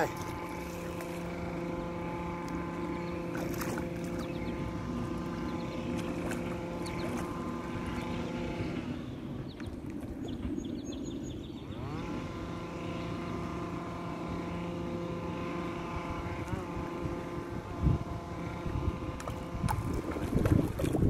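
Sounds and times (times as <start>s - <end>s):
boat motor humming: 0.0s - 21.0s.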